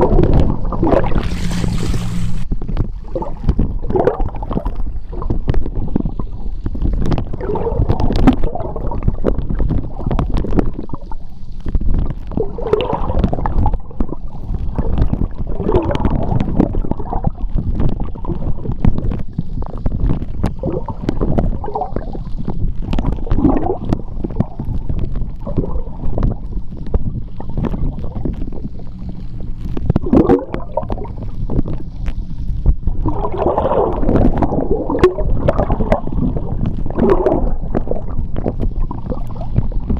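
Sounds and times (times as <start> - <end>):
gurgling bubbles: 0.0 - 39.9
underwater rumble of moving water: 0.0 - 39.9.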